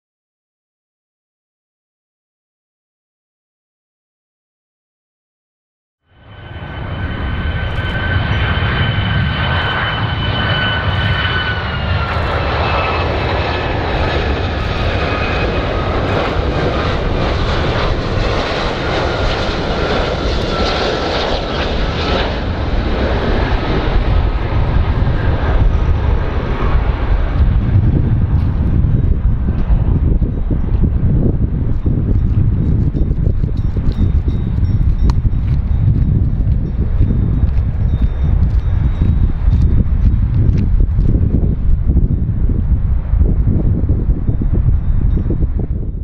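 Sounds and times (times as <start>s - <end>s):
jet engine whine: 6.0s - 46.0s
jet engines roaring: 6.1s - 45.9s.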